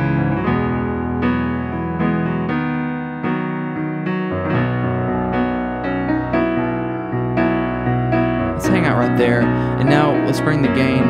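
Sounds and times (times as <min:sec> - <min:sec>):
keyboard piano chords: 0:00.0 - 0:11.0.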